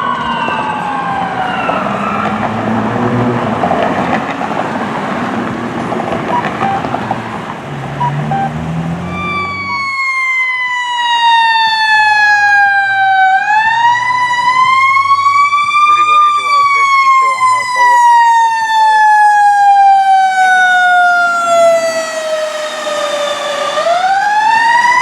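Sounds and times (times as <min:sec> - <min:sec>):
siren wailing: 0:00.0 - 0:03.0, 0:06.3 - 0:07.4, 0:08.0 - 0:25.0
vehicle engine and road noise: 0:00.0 - 0:10.8, 0:12.3 - 0:25.0.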